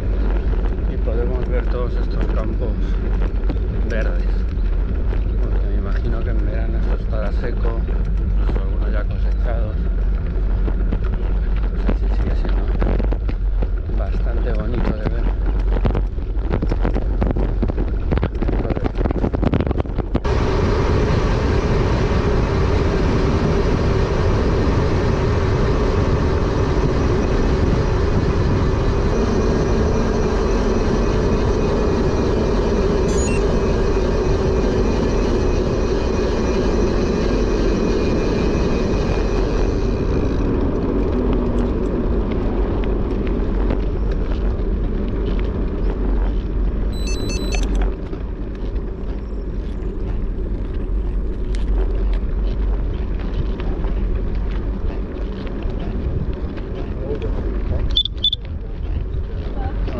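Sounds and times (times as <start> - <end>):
bicycle tyre noise: 0.0 - 59.9
wind rushing over microphone: 0.0 - 59.9.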